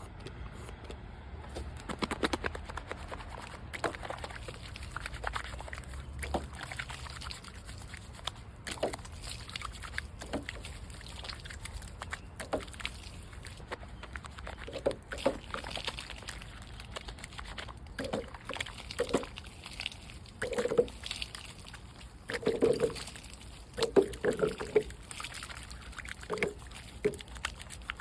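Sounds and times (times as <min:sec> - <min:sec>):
sharp drips and splashes: 0:01.5 - 0:28.0
water trickling: 0:02.8 - 0:28.0.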